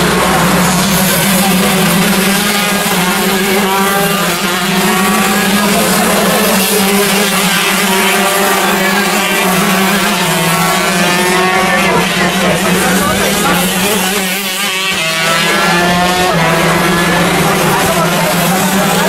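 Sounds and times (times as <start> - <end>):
kart engines racing past: 0.0 - 19.0.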